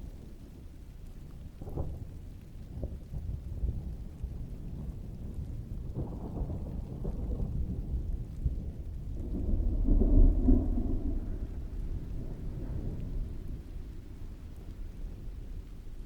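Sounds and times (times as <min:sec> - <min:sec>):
steady rainfall: 0:00.0 - 0:16.0
rolling thunder: 0:01.4 - 0:16.0.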